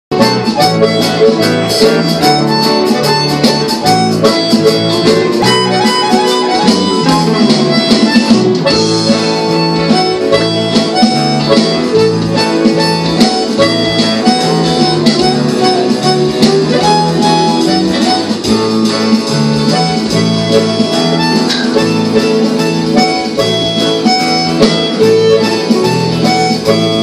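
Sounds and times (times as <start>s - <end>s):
drums steady beat: 0.1s - 27.0s
harmonica melody: 0.1s - 27.0s
strummed guitars: 0.1s - 27.0s.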